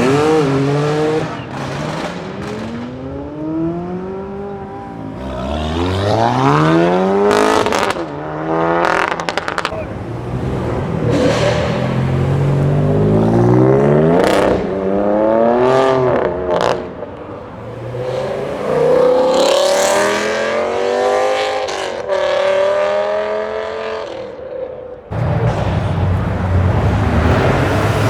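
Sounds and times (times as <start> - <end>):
car engine accelerating hard: 0.0 - 24.2, 25.1 - 28.0.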